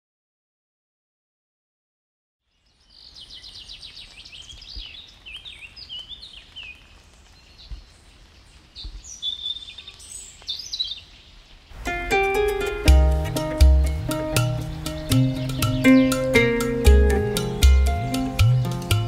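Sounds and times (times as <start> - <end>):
songbirds singing: 2.4 - 19.0.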